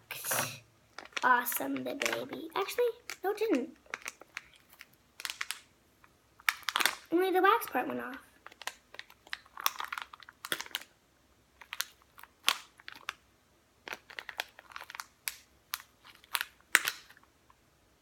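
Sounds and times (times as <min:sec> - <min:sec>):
packet crinkling: 0:00.2 - 0:11.0, 0:11.6 - 0:13.2, 0:13.8 - 0:17.3.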